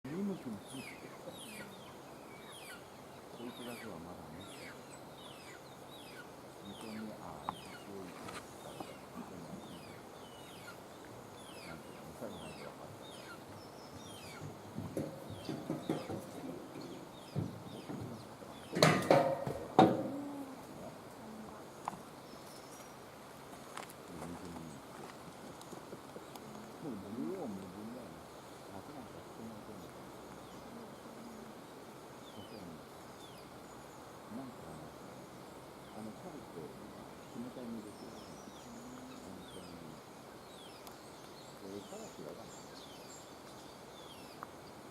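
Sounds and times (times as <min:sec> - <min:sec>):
outdoor background noise: 0:00.0 - 0:44.9
faint low voices: 0:00.1 - 0:05.2, 0:05.8 - 0:22.2, 0:24.0 - 0:40.3, 0:41.4 - 0:43.0.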